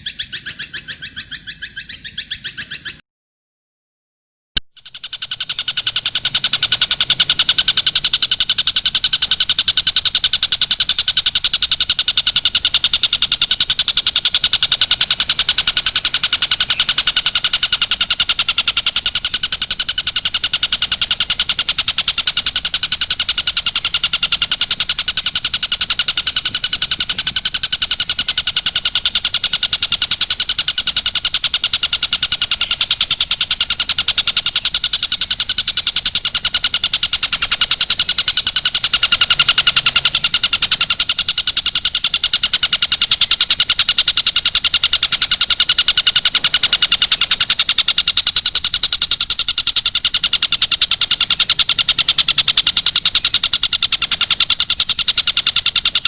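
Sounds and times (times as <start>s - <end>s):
high-pitched bird trill: 0.0s - 3.0s, 4.8s - 56.0s.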